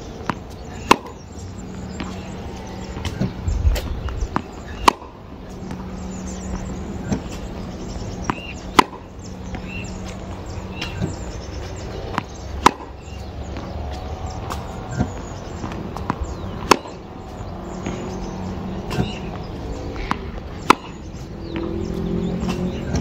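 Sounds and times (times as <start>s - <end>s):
racket hitting tennis ball: 0.2s - 5.9s, 7.0s - 18.1s, 18.8s - 21.7s, 22.4s - 23.0s
tennis ball bouncing on hard court: 0.2s - 23.0s.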